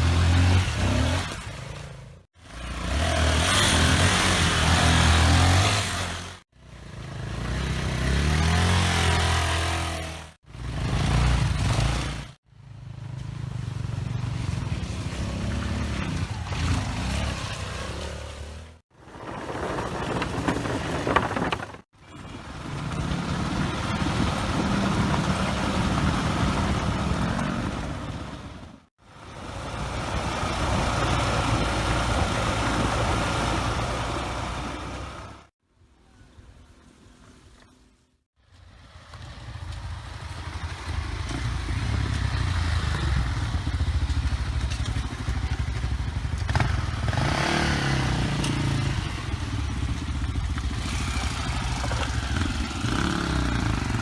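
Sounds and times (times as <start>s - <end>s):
dirt bike engines revving: 0.0s - 12.4s, 13.0s - 35.5s, 38.8s - 54.0s.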